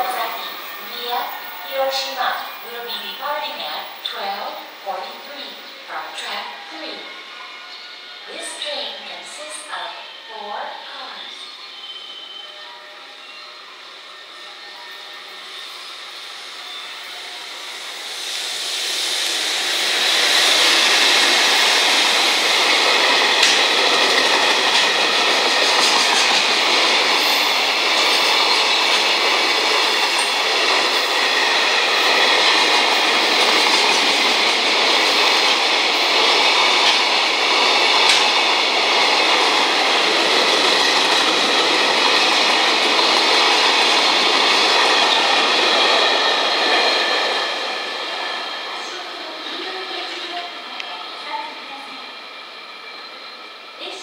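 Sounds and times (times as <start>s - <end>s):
freight train passing: 0.0s - 54.0s.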